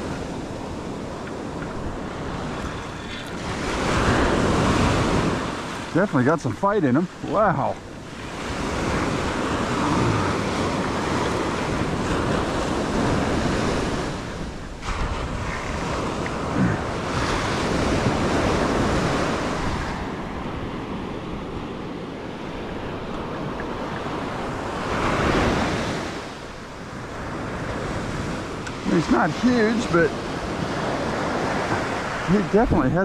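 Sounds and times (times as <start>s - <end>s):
ocean surf washing onto beach: 0.0s - 33.0s
wind rushing over microphone: 0.0s - 33.0s.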